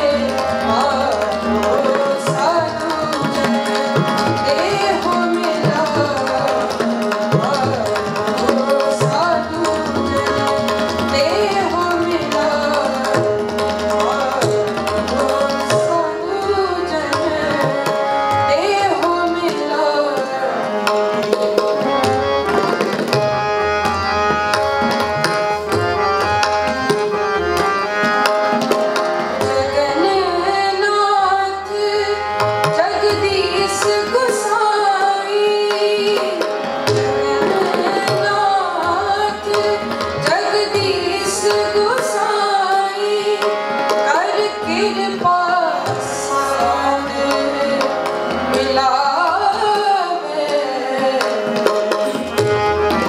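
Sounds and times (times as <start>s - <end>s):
woman singing: 0.0s - 21.6s, 29.4s - 53.0s
harmonium chords: 0.0s - 53.0s
tabla drumming: 0.0s - 53.0s.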